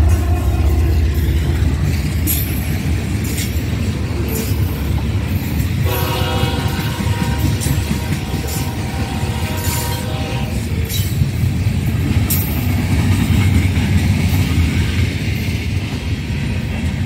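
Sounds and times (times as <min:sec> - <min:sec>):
locomotive engine rumbling: 0:00.0 - 0:17.0
train wheels clicking over rail joints: 0:00.0 - 0:17.0.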